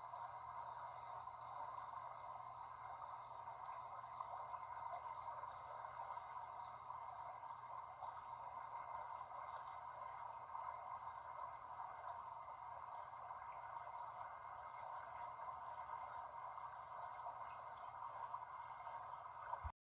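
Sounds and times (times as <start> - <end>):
stream water babbling: 0.0 - 19.7.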